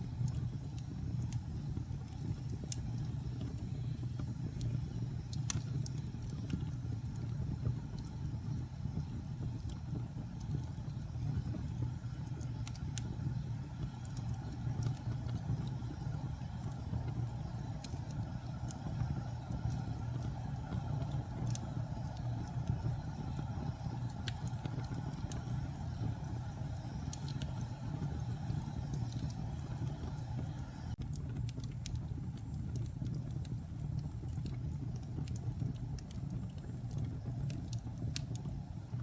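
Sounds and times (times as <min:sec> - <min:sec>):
fire crackles and pops: 0:00.0 - 0:39.0
low roar of flames: 0:00.0 - 0:39.0.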